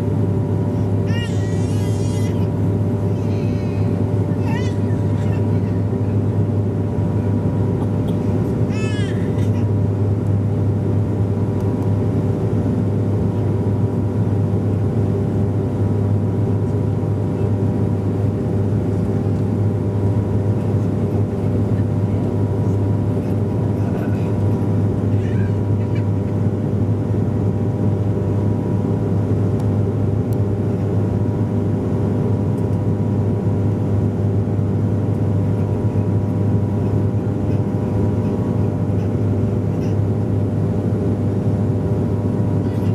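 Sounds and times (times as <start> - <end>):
turboprop engine drone in cabin: 0.0 - 42.9.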